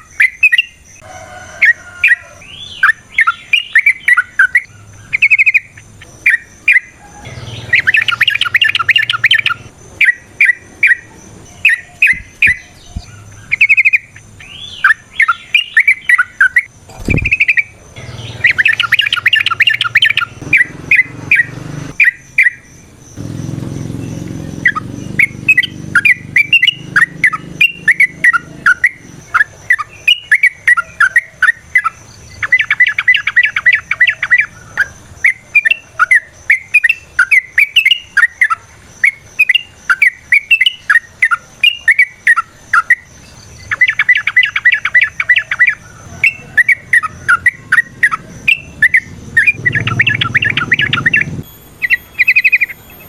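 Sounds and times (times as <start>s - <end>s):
bird chirping and trilling: 0.0s - 53.0s.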